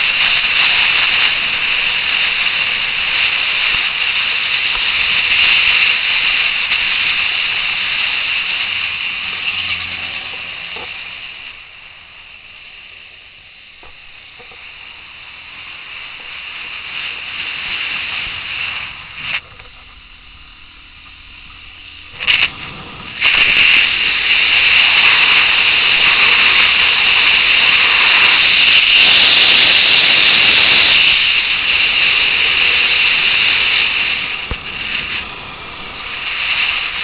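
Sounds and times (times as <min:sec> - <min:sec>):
wind and road rush on microphone: 0:00.0 - 0:37.0.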